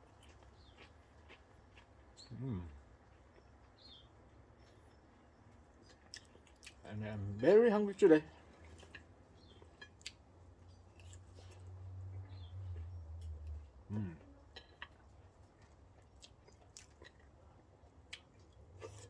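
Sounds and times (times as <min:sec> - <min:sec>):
soft chewing: 0:00.0 - 0:07.5, 0:08.2 - 0:19.0.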